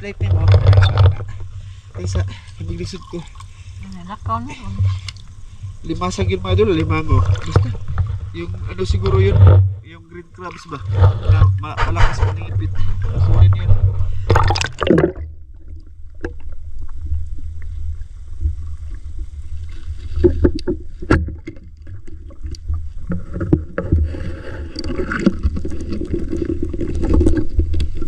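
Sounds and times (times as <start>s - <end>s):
low steady rumble: 0.0s - 28.0s
wading through shallow water: 0.0s - 28.0s.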